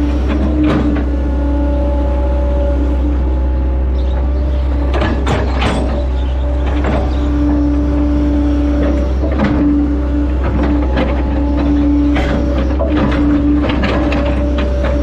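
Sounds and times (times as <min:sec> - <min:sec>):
clunks and rattles: 0:00.0 - 0:02.0, 0:03.8 - 0:15.0
excavator diesel engine drone: 0:00.0 - 0:15.0
hydraulic whine: 0:00.0 - 0:15.0.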